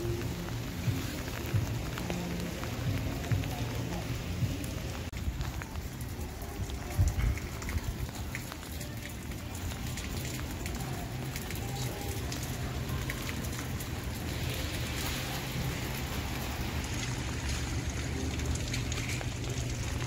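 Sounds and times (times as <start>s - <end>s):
rain on wet street: 0.0s - 20.0s.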